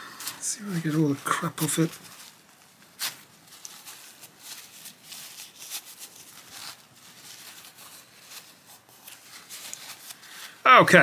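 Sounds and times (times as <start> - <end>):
paper towel crinkling: 0.1 - 11.0.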